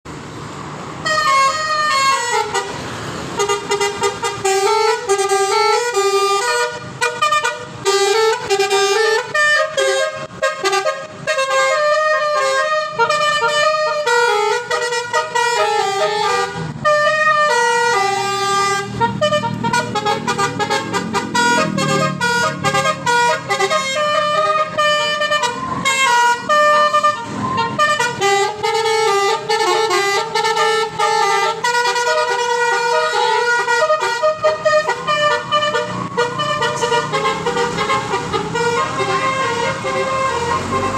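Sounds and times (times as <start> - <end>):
musical car horn melody: 1.0 - 40.9.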